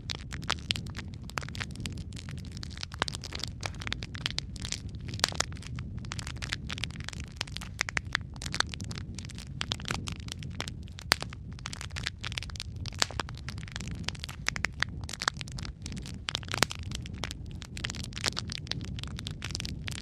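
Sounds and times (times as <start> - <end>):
fire popping: 0.0 - 20.0
fireplace fire crackling: 0.0 - 20.0
low rumble of fire: 0.0 - 20.0.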